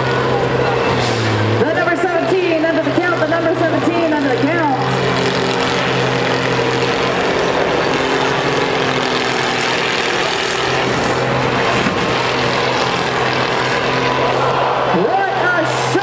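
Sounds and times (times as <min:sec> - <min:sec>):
diesel engines running hard: 0:00.0 - 0:16.0.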